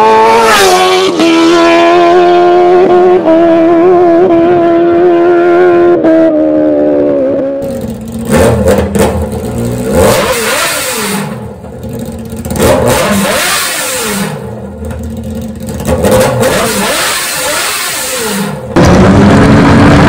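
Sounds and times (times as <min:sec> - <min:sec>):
superbike engine revving: 0:00.0 - 0:20.0.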